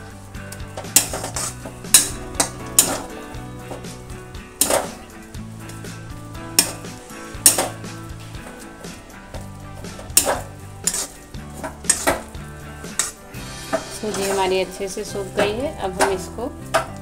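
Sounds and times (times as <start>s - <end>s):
metal spoon scraping a pan: 0.5s - 4.0s, 4.6s - 17.0s.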